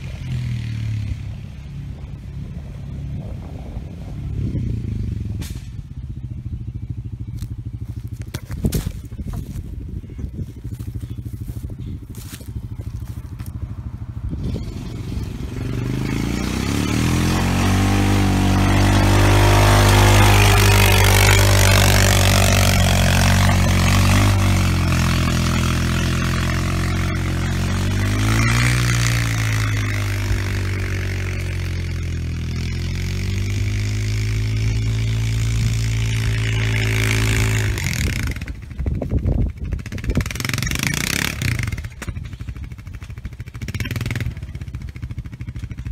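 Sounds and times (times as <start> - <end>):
atv engine running under load: 0.0 - 45.9.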